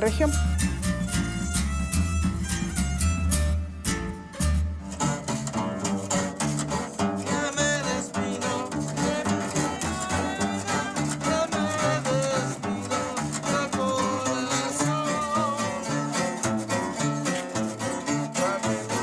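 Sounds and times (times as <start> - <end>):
bass line: 0.0 - 19.0
plucked and strummed guitars: 0.0 - 19.0.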